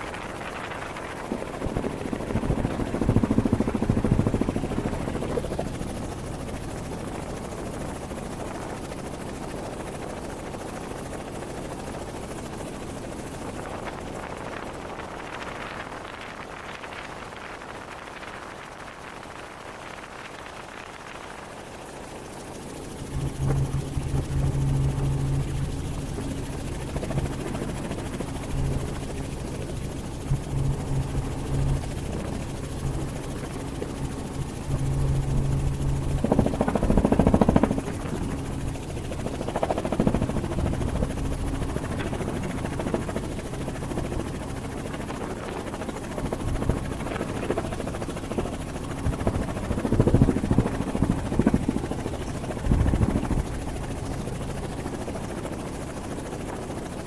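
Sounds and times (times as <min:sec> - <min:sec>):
helicopter rotor and engine drone: 0:00.0 - 0:57.0.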